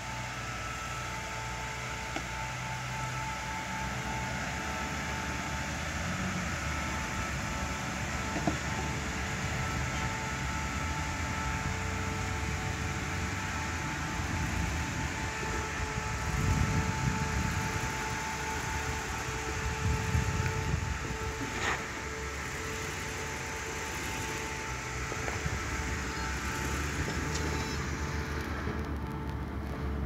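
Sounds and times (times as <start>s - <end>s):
engine running at low revs: 0.0s - 30.0s.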